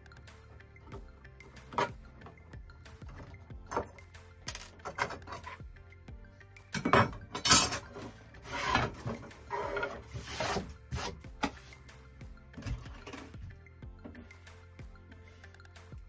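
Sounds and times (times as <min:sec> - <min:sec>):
quiet background music: 0:00.0 - 0:16.0.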